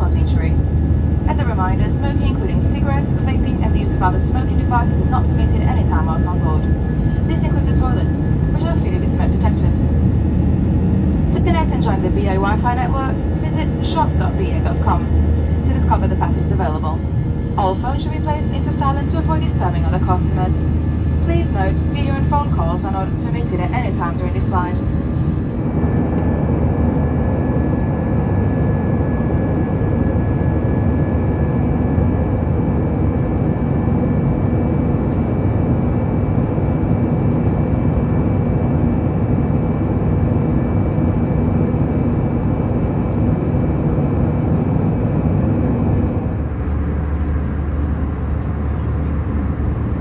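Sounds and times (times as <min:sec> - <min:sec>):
airplane cabin engine roar: 0:00.0 - 0:50.0.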